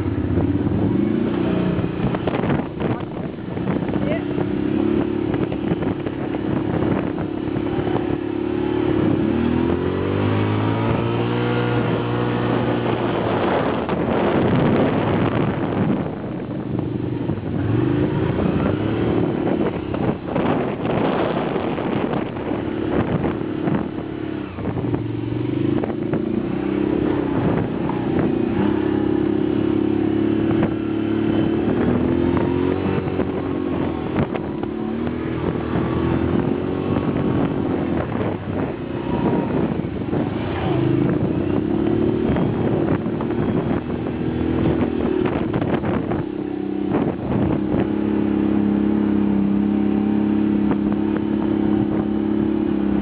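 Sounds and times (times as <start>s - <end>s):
motorbike engine revving: 0.0s - 53.0s
wind noise: 0.0s - 53.0s.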